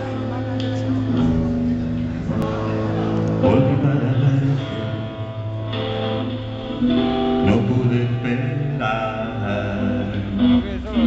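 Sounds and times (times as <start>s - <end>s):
bass: 0.0s - 11.0s
electric guitars with held notes: 0.0s - 11.0s.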